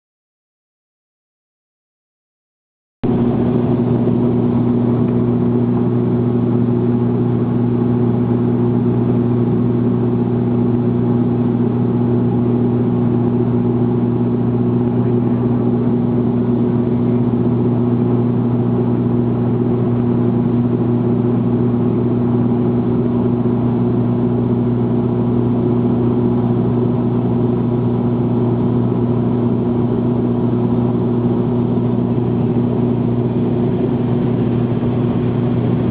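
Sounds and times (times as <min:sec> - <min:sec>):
aircraft propellers humming: 0:03.0 - 0:35.9.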